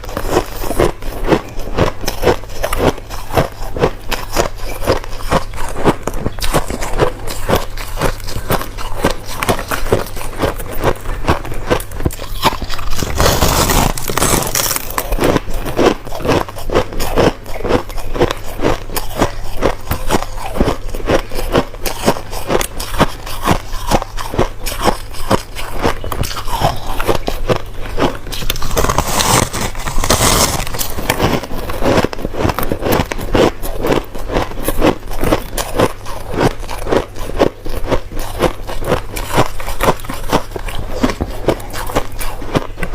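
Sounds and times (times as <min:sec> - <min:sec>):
crunching of chewed ice: 0:00.0 - 0:42.9.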